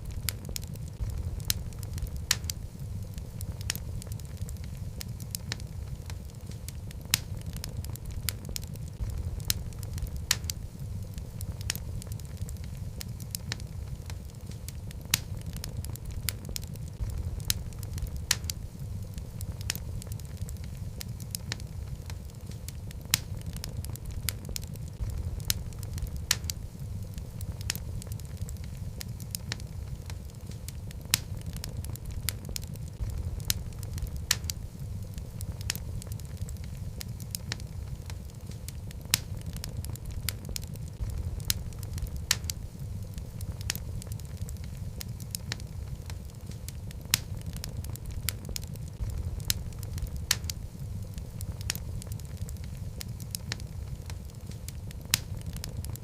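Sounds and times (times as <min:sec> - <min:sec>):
burning logs popping and snapping: 0:00.0 - 0:56.0
low rumble of flames: 0:00.0 - 0:56.0.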